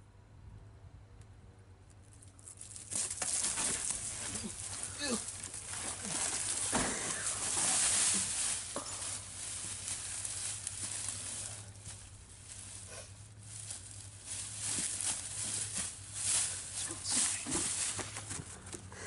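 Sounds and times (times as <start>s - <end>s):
dry leaves crunching: 2.0s - 18.9s
pine boughs thrashing: 2.0s - 18.9s.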